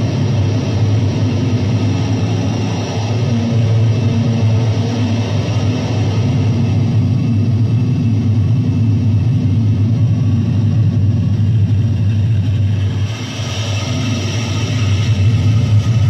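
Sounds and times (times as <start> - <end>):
droning rumble: 0.0 - 16.0.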